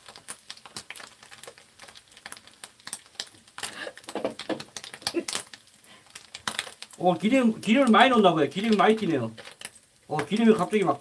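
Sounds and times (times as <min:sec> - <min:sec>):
oil crackling and spitting in pan: 0:00.0 - 0:11.0.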